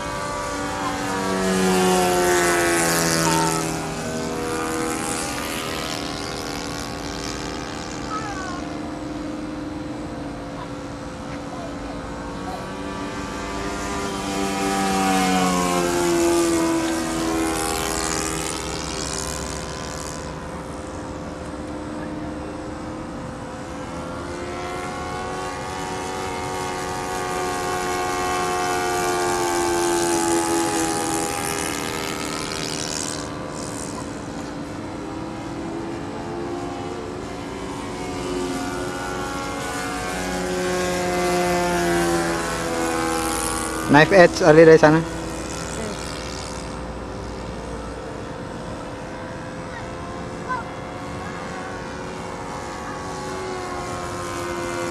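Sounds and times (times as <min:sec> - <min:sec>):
model plane engine buzzing: 0:00.0 - 0:54.9.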